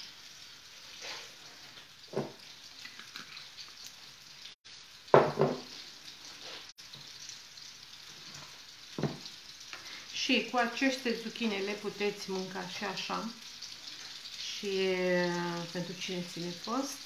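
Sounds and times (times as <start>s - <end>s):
patties sizzling in oil: 0.0s - 17.0s.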